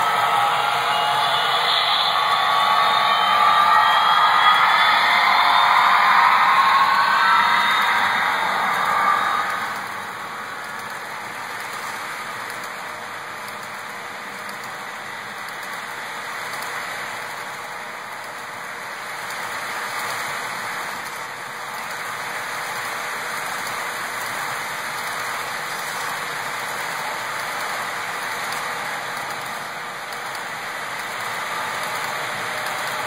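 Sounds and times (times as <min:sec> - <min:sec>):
model train wheels rolling on rails: 0:00.0 - 0:33.0.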